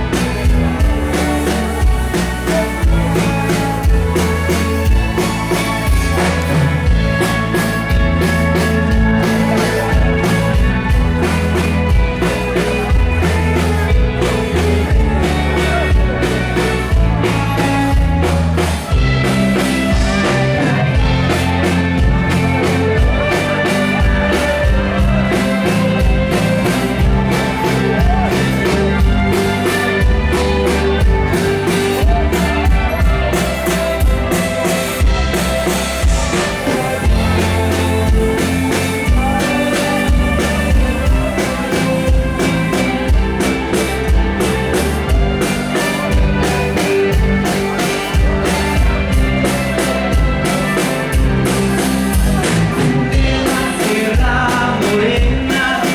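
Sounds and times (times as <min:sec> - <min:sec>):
live rock band playing: 0:00.0 - 0:55.9.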